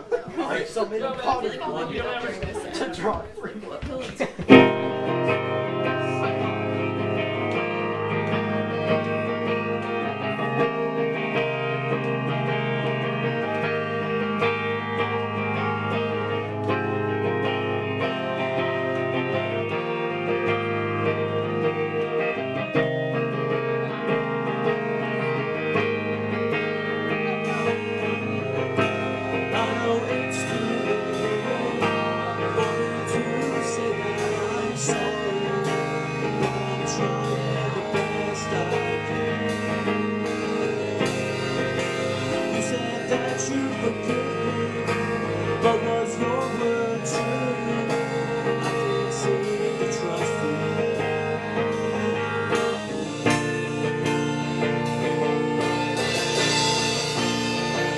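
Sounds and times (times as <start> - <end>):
live rock band playing: 4.4 - 57.9.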